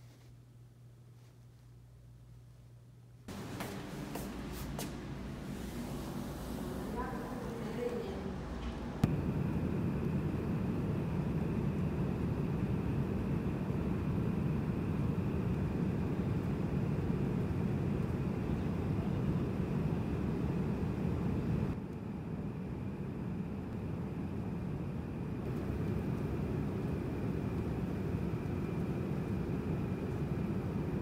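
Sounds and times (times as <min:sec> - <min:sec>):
airliner cabin drone: 0:03.3 - 0:31.0.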